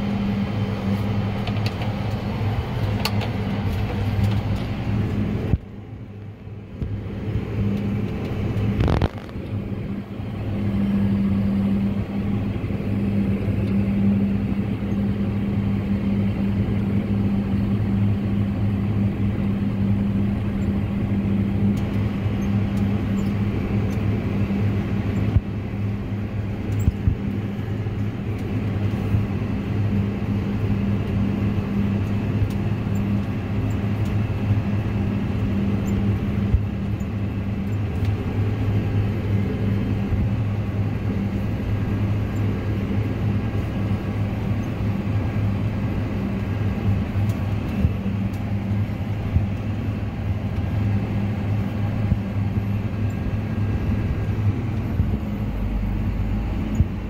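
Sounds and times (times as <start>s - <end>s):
tractor engine humming: 0.0s - 57.0s.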